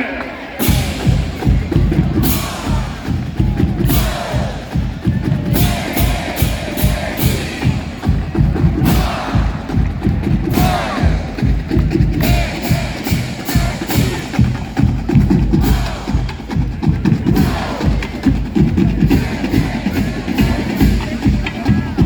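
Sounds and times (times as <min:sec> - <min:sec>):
marching band brass tune: 0:00.0 - 0:22.0
drumline with bass drums: 0:00.6 - 0:22.0.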